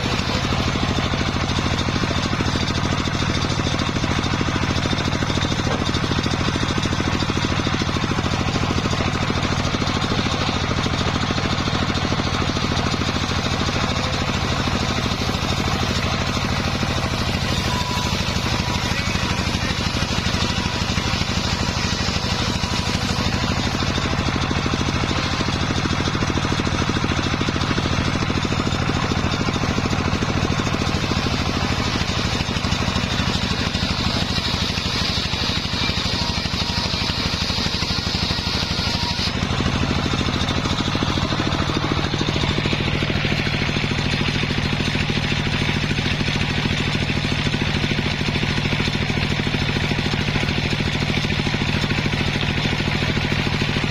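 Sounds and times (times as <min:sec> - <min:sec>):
circular saw running: 0:00.0 - 0:53.9.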